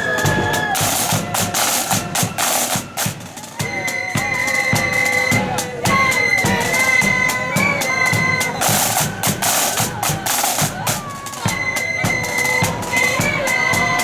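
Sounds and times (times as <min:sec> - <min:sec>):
high flute melody: 0:00.0 - 0:14.0
snare and bass drums: 0:00.0 - 0:14.0.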